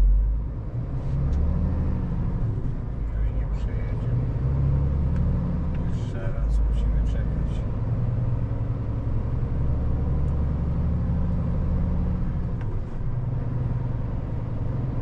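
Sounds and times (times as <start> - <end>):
road noise: 0.0 - 15.0
truck engine droning: 0.0 - 15.0.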